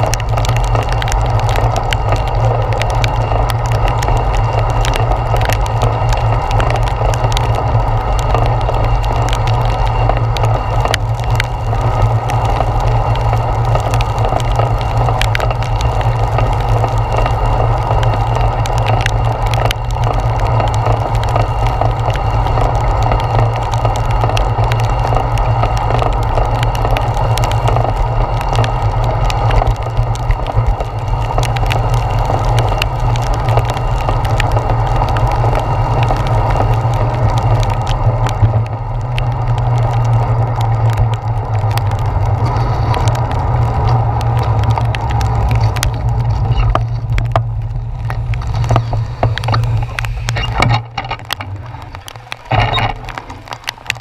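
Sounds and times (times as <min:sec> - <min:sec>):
bicycle riding on wet road: 0:00.0 - 0:54.0
faint ticks: 0:00.0 - 0:54.0
heavy rain: 0:00.0 - 0:54.0.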